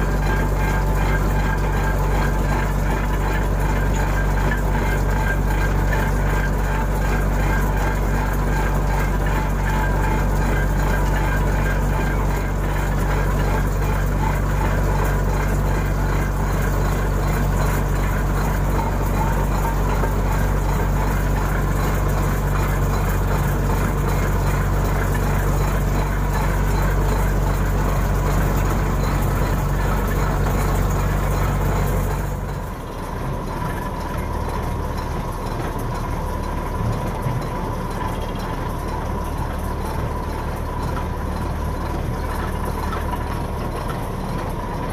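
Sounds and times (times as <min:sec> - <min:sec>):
diesel machinery humming: 0:00.0 - 0:44.9.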